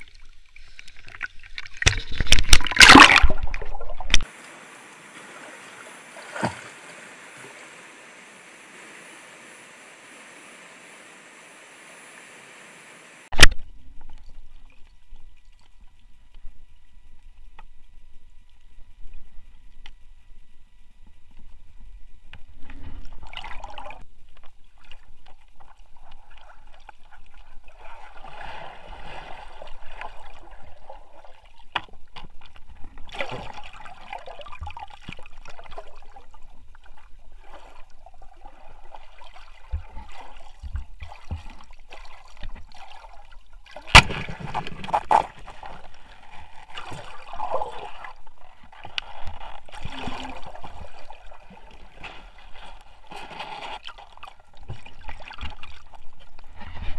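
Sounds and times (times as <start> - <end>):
stream water sloshing and splashing: 0.0 - 16.0, 22.4 - 56.9.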